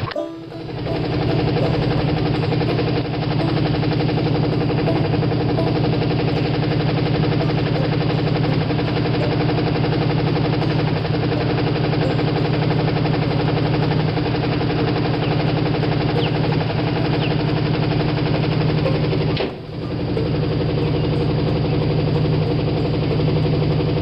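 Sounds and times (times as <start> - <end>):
car engine idling with knock: 0.0 - 24.0.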